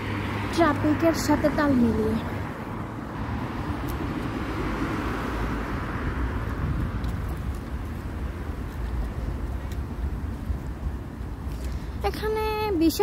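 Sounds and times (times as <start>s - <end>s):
vehicle passing: 0.0s - 12.2s
roadway traffic rumble: 0.0s - 13.0s.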